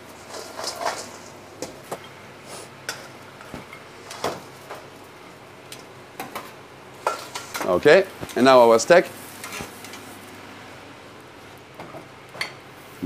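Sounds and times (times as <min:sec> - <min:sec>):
kitchen hum: 0:00.0 - 0:13.0.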